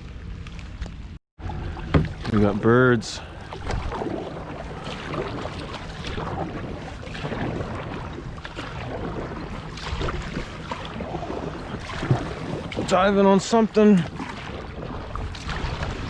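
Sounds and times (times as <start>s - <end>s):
water rushing around kayak: 0.0s - 16.0s.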